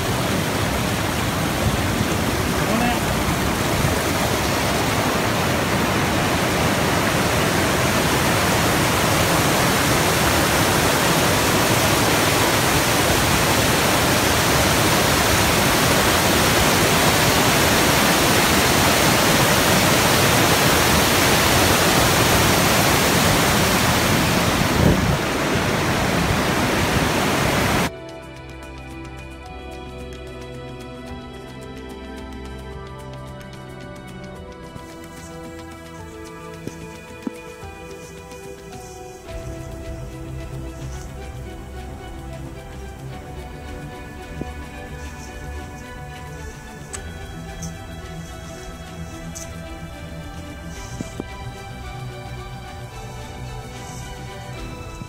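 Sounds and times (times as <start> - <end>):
waterfall rushing over rocks: 0.0 - 28.9, 30.0 - 55.0
soft music: 0.0 - 55.0.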